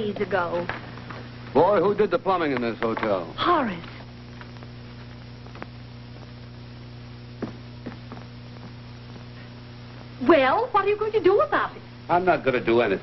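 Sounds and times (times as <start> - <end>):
film soundtrack hum and hiss: 0.0 - 13.0.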